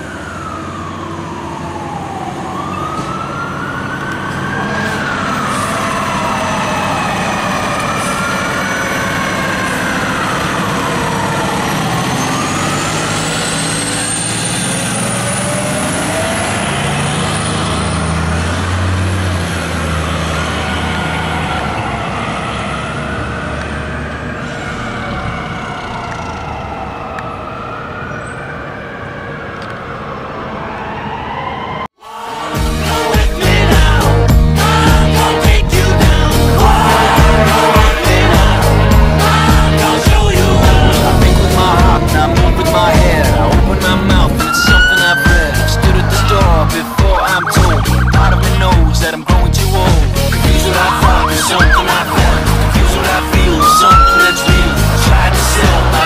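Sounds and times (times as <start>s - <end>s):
diesel truck engine pulling away: 0.0s - 31.3s, 32.8s - 56.0s
fire engine sirens wailing: 0.0s - 56.0s.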